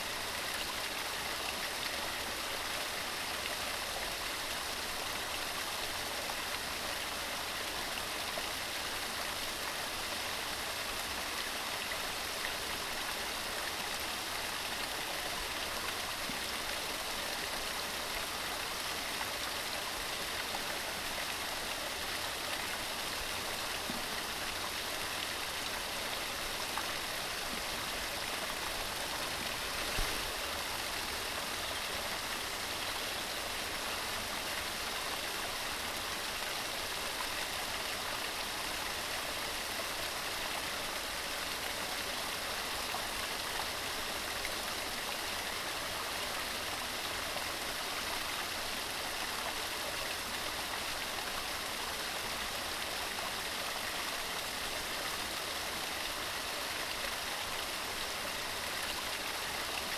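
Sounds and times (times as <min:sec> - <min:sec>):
stream water rushing: 0:11.2 - 0:59.9.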